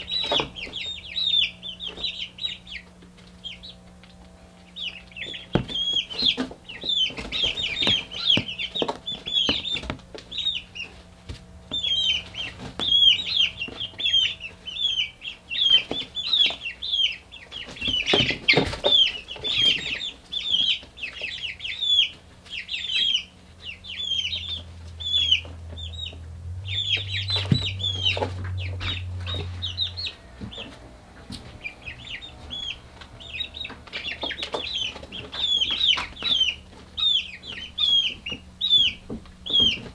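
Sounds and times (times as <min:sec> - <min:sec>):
chicks peeping: 0:00.0 - 0:39.9
low steady hum: 0:00.0 - 0:39.9.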